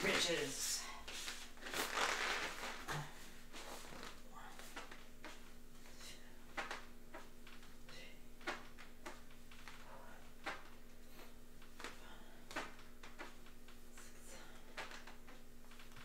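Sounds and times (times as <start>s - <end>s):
steady low hum: 0.0s - 16.0s
person doing crunches on mats: 1.1s - 16.0s.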